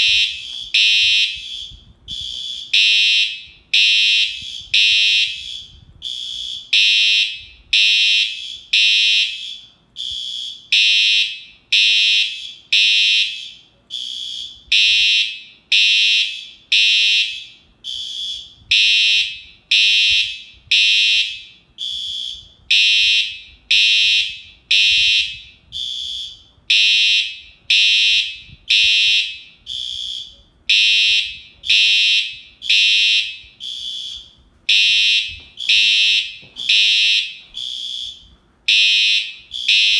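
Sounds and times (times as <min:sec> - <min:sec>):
fire alarm pulsed tone: 0:00.0 - 0:39.9.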